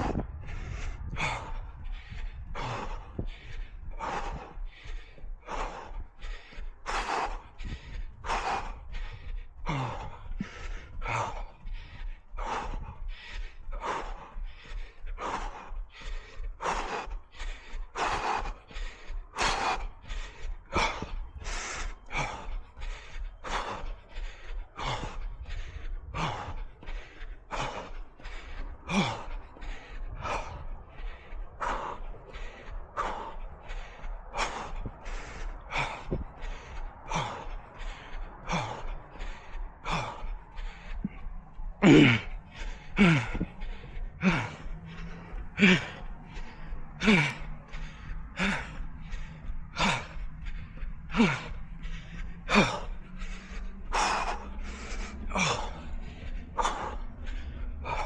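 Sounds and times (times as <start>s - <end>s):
runner breathing hard: 0.0s - 58.0s
wind rumble on microphone: 0.0s - 58.0s.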